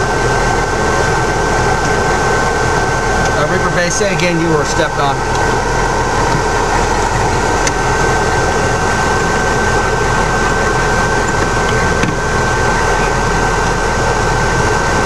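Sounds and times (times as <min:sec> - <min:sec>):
high-pitched whine: 0:00.0 - 0:15.0
vehicle engine rumbling: 0:00.0 - 0:15.0.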